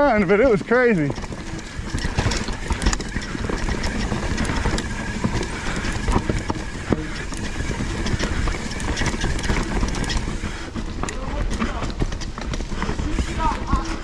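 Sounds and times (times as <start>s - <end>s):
bike rattling over rough ground: 0.0s - 14.0s
bike tyre and wind rush: 0.0s - 14.0s.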